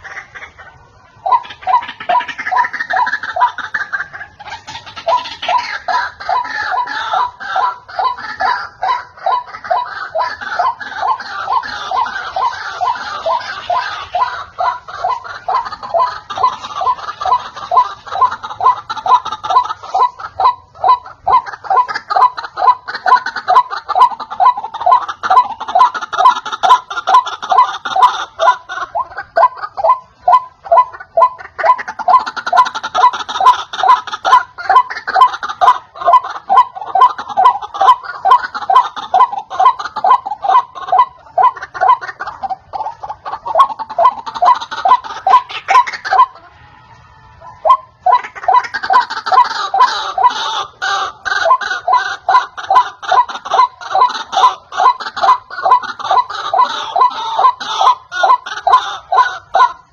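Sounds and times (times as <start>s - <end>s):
waterhen cackling calls: 0.0s - 59.9s.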